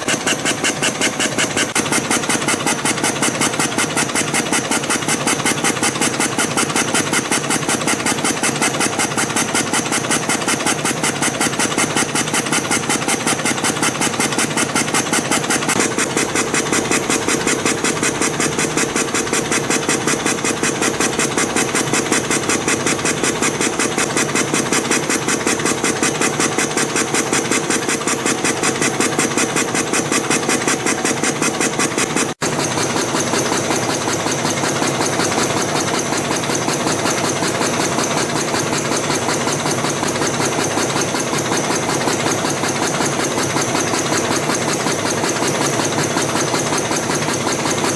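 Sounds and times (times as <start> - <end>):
spring coiling machine clatter: 0.0 - 47.9.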